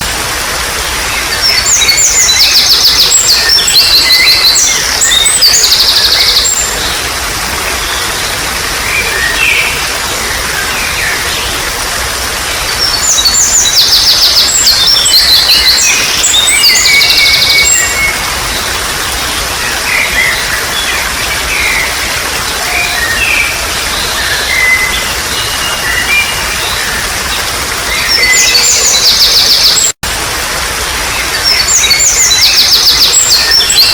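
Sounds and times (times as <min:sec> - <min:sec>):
trickle of running water: 0:00.0 - 0:33.9
songbird singing rapid chirps: 0:01.0 - 0:30.0.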